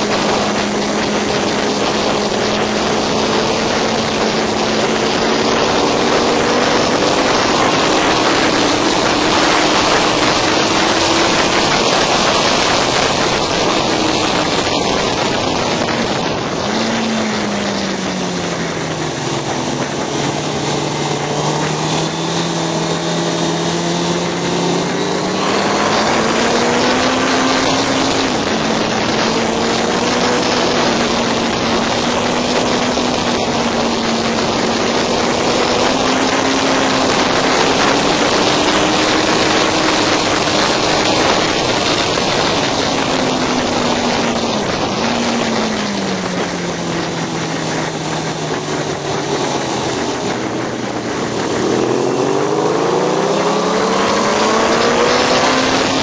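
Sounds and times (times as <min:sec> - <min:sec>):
motorcycle engine: 0:00.0 - 0:56.0
rush of wind: 0:00.0 - 0:56.0.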